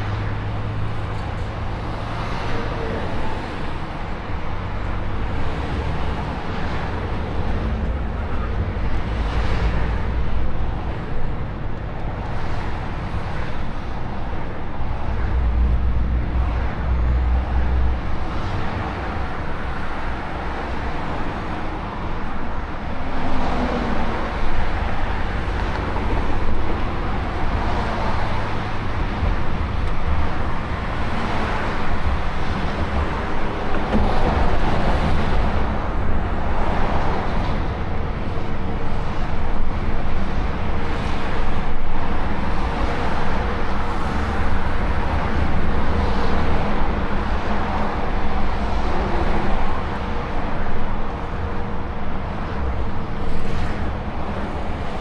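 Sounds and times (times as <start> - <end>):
road and tyre noise: 0.0 - 55.0.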